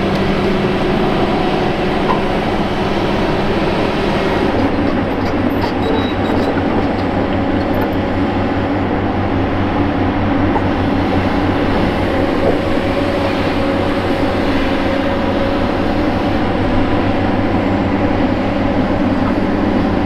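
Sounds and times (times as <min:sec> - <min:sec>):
excavator diesel engine drone: 0:00.0 - 0:20.0.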